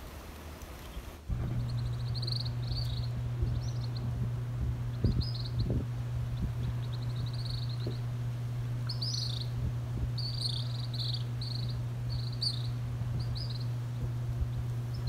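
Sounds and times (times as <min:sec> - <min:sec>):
steady low hum: 0:00.0 - 0:15.0
baby birds chirping: 0:01.4 - 0:15.0.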